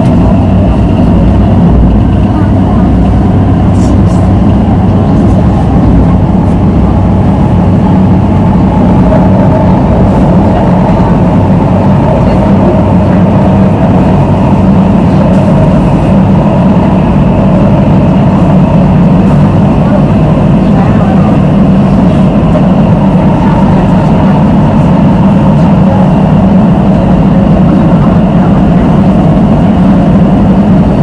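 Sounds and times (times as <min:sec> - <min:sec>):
constant hum: 0:00.0 - 0:31.0
train wheels rumbling on rail: 0:00.0 - 0:31.0.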